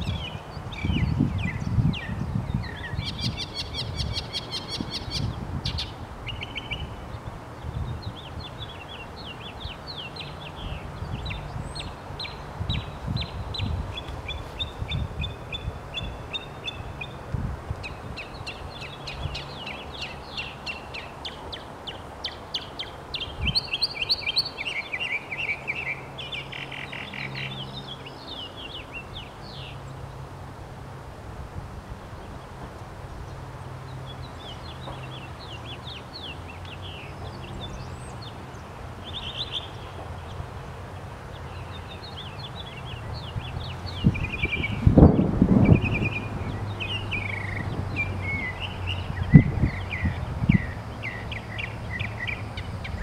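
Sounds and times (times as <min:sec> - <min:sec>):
songbird singing: 0:00.0 - 0:30.4, 0:32.0 - 0:53.0.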